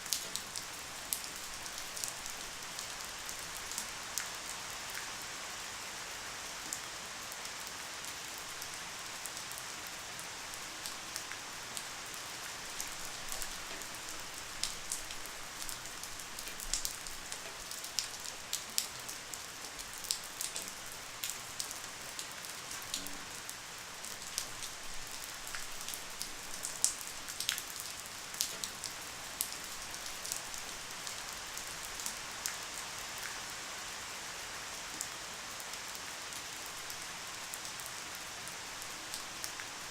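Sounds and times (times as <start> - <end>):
raindrops ticking on a surface: 0.0 - 5.2, 6.4 - 33.5, 34.2 - 39.9
light rain hissing: 0.0 - 39.9.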